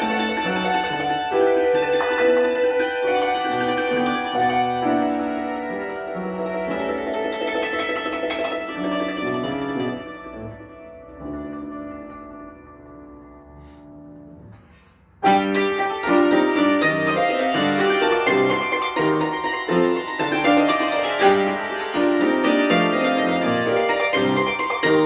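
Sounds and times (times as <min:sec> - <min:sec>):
cimbalom playing: 0:00.0 - 0:25.0.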